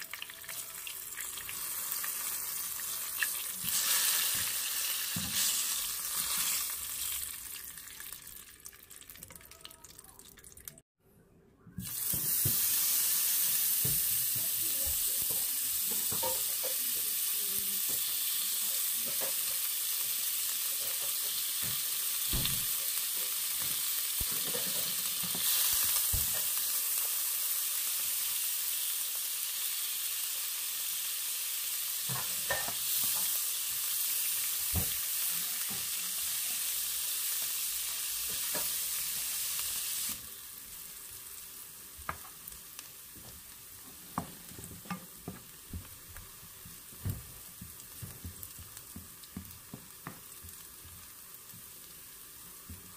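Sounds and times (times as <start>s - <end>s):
butter sizzling in a wok: 0.0s - 9.5s, 11.8s - 52.9s.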